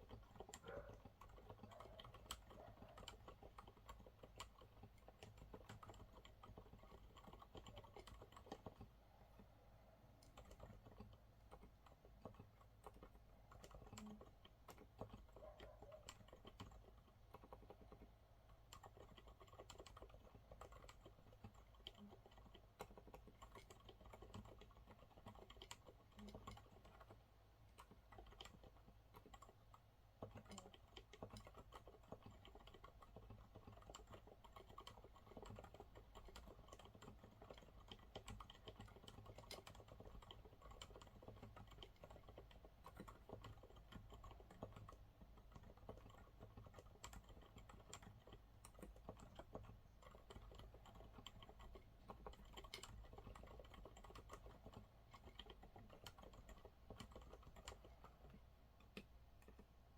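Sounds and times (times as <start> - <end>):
soft mechanical keyboard typing: 0.0 - 59.9.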